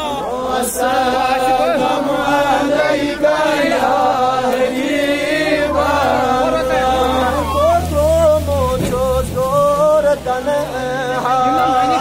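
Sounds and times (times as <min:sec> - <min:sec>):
men chanting devotional song: 0:00.0 - 0:12.0.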